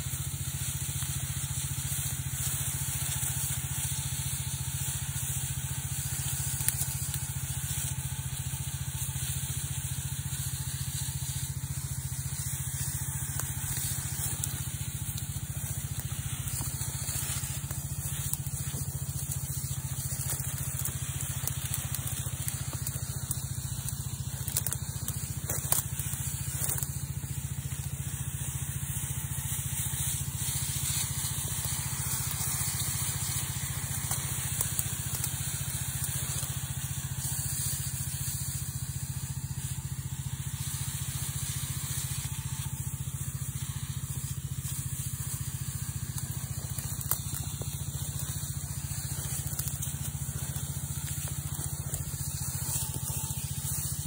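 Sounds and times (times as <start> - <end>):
pump engine humming: 0.0 - 54.0
spray lance hissing: 0.0 - 54.0.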